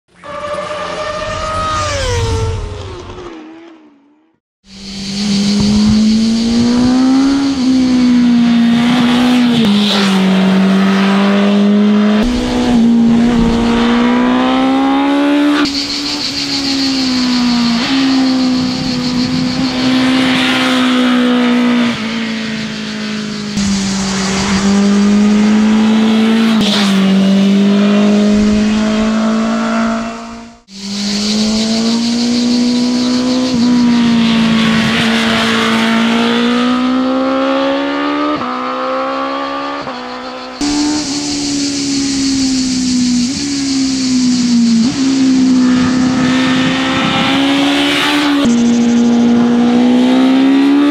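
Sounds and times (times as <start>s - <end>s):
motorcycle engine revving: 0.2s - 50.9s.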